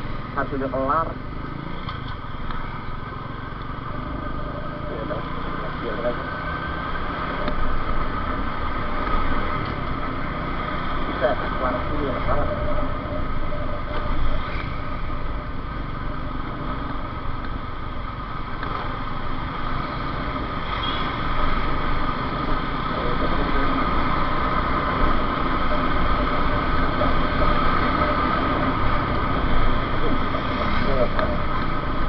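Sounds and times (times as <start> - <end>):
motorcycle engine: 0.0 - 32.0.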